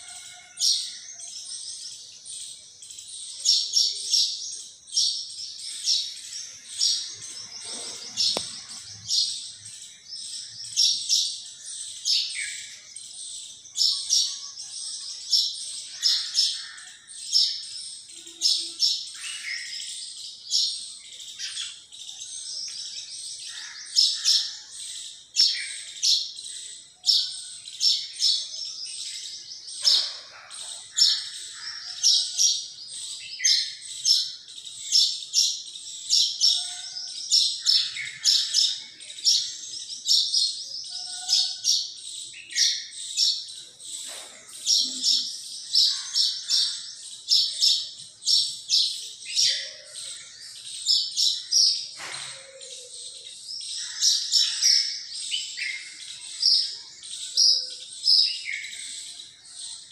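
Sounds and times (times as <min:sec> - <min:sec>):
small songbird chirping: 0:00.8 - 0:59.9.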